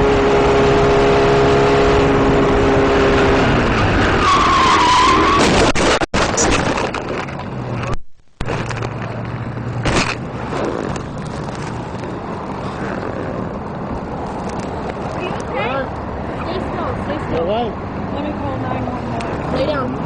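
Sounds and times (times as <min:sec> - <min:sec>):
vehicle running with road noise: 0:00.0 - 0:20.0.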